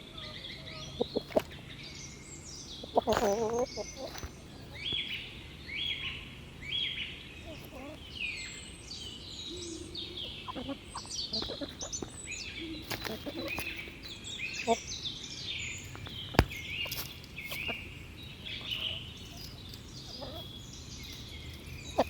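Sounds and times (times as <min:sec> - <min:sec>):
small birds chirping: 0:00.0 - 0:22.0
chickens clucking: 0:00.6 - 0:01.7, 0:02.4 - 0:15.1, 0:15.8 - 0:22.0.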